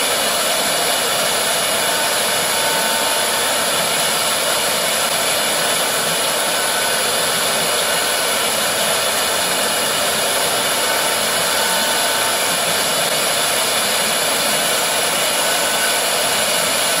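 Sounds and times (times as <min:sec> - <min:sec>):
cutting hiss: 0:00.0 - 0:17.0
router spindle whine: 0:00.0 - 0:17.0.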